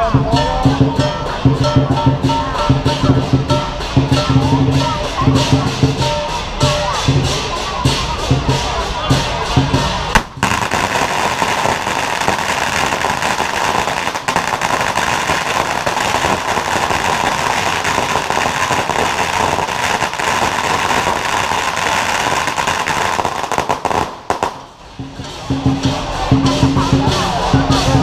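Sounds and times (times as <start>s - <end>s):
music: 0.0s - 28.0s
firecrackers crackling: 0.1s - 28.0s.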